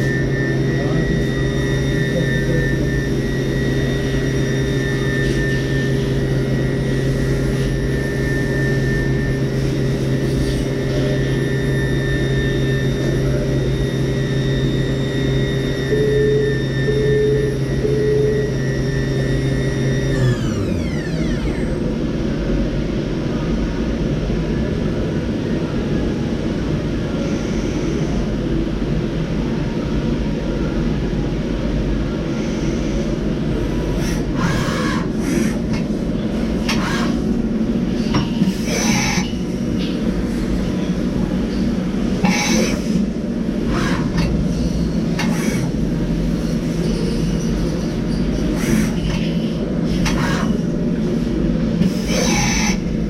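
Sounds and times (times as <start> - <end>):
machining centre humming and rumbling: 0.0 - 53.0.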